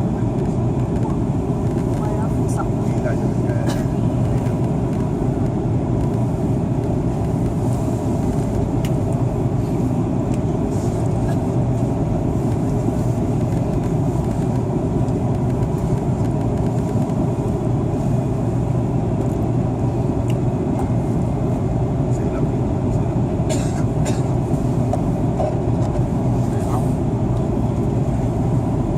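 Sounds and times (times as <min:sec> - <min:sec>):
airliner cabin engine rush: 0:00.0 - 0:28.9.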